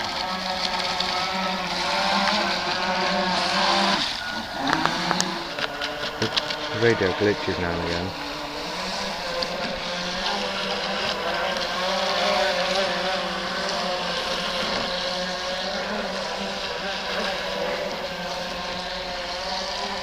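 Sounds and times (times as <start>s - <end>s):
electric motor whine: 0.0s - 20.0s
hull hissing through water: 0.0s - 20.0s.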